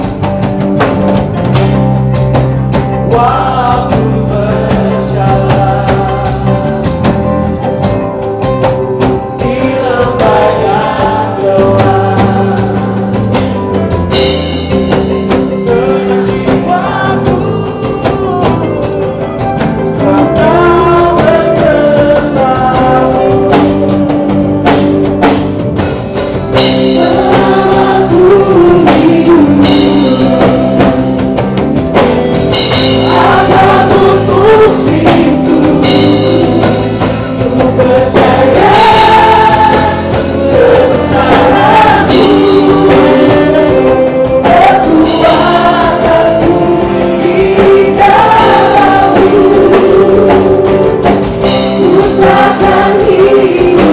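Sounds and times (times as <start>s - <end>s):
band accompaniment: 0.0s - 53.9s
drum hits: 0.0s - 53.9s
voices singing together: 3.0s - 7.1s, 8.6s - 25.6s, 26.5s - 31.4s, 32.5s - 53.9s.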